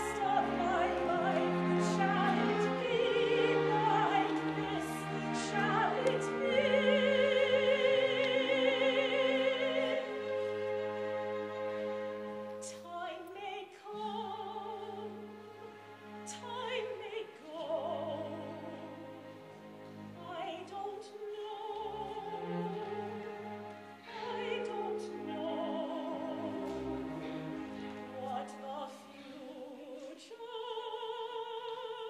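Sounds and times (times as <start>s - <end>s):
opera singing with vibrato: 0.0s - 10.4s, 12.6s - 15.4s, 16.2s - 19.3s, 20.2s - 32.0s
orchestra playing: 0.0s - 13.3s, 13.9s - 29.8s.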